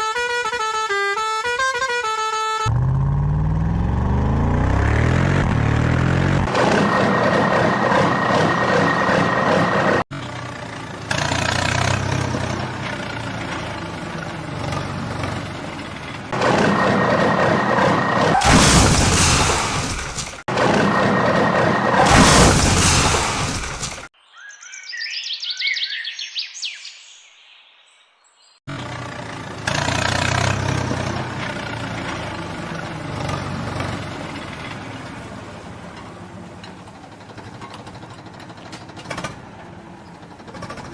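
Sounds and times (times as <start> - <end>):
heavy vehicle engine rumbling: 1.4 - 24.1, 28.7 - 40.9.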